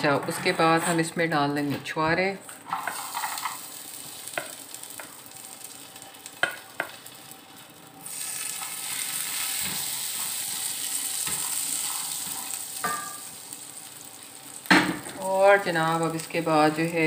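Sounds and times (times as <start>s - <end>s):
dates frying in ghee: 0.0s - 17.0s.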